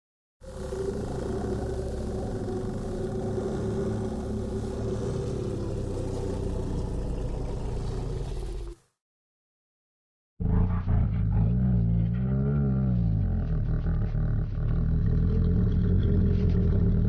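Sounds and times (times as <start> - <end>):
deep creature call: 0.4 - 8.8, 10.4 - 17.0.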